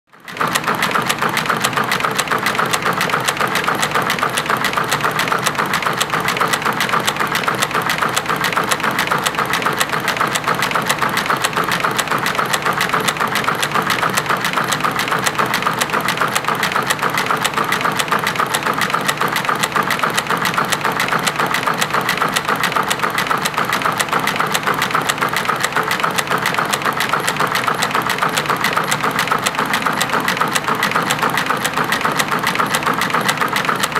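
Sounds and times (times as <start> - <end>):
loom mechanical clatter: 0.1 - 33.9.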